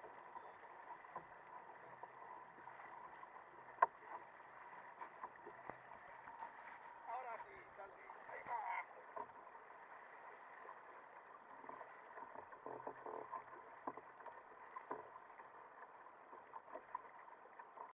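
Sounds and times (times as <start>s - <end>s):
water rushing against hull: 0.0s - 18.0s
water splashes and slaps: 0.0s - 18.0s.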